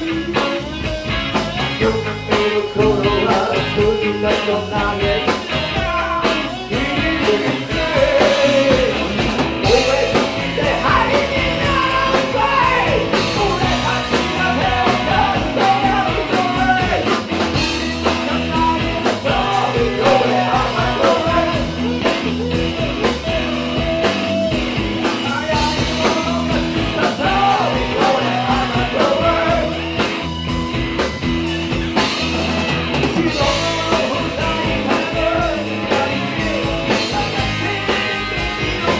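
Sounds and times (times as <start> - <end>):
rock band music: 0.0 - 38.9.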